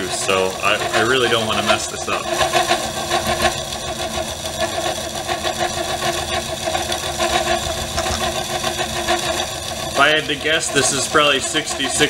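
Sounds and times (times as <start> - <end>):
milling machine hum: 0.0 - 12.0.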